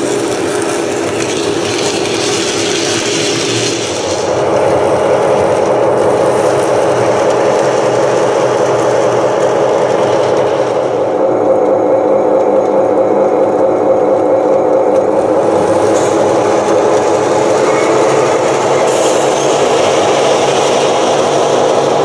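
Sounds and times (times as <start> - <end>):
diesel locomotive engine sound: 0.0 - 22.0.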